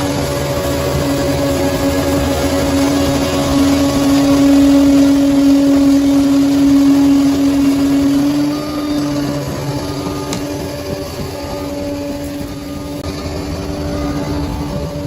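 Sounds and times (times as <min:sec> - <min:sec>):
bulldozer diesel engine under load: 0:00.0 - 0:15.0.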